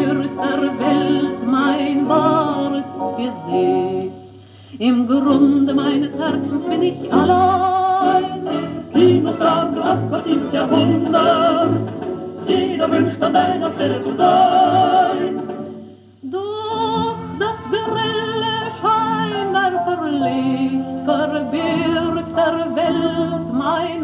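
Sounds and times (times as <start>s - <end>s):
orchestral dance-band music from record: 0.0s - 24.0s.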